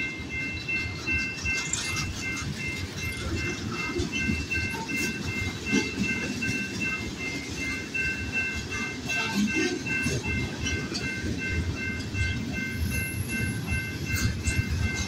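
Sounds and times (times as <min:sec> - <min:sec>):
crossing warning bell ringing: 0:00.0 - 0:15.0
train wheels rumbling on rails: 0:00.0 - 0:15.0.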